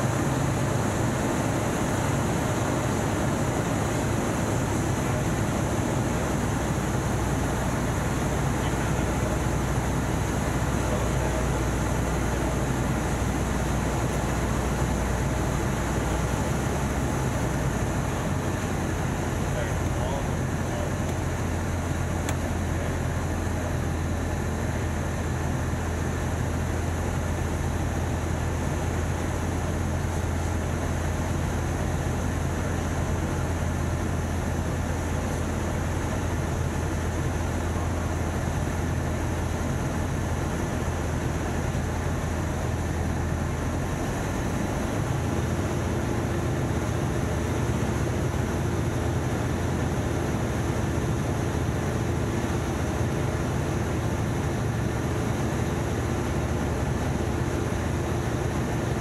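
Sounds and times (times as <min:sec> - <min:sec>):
light airplane engine drone: 0:00.0 - 0:59.0.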